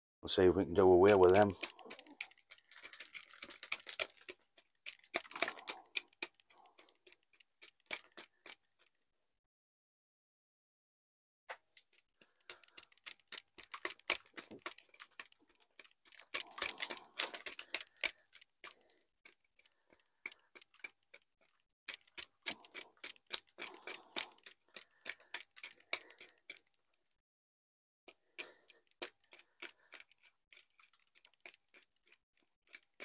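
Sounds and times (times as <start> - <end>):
tools scratching soil and roots: 0.3 - 9.0, 11.5 - 27.2, 28.1 - 33.0.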